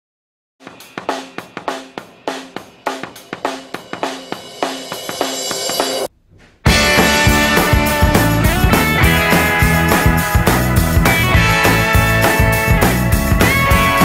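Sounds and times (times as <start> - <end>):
drum kit snare and cymbals: 0.6 - 14.0.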